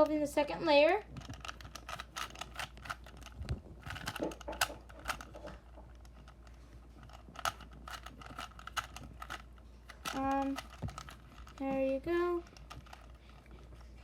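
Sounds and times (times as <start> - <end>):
puzzle cube plastic clicks: 1.1 - 13.5.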